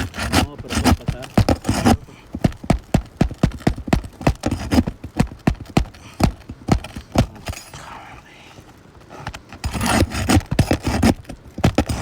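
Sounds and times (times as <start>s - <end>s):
rapid hammer blows on nails: 0.0s - 7.7s, 9.2s - 12.0s.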